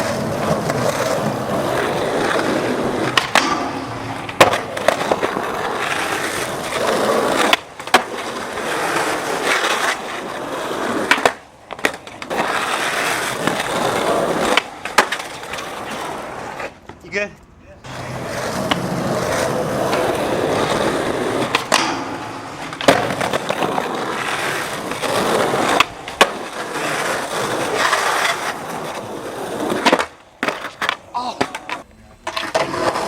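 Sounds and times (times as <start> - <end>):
skateboard clacking on ground: 0.0 - 33.0
skateboard wheels rolling on pavement: 0.0 - 33.0.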